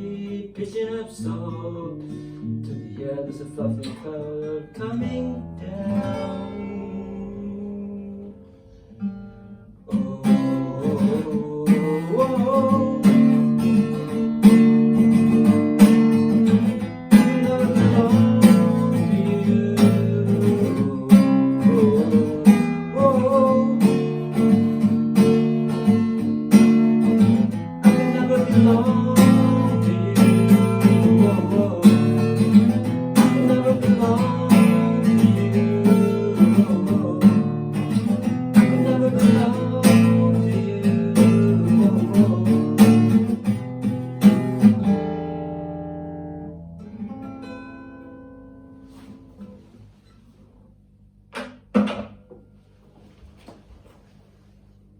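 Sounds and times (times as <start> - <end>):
acoustic guitars strummed: 0.0 - 50.5, 51.4 - 53.0.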